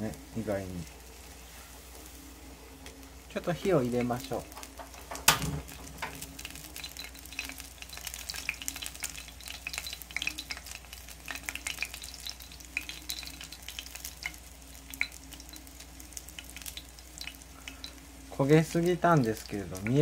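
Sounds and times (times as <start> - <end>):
fritter frying in oil: 0.0 - 20.0.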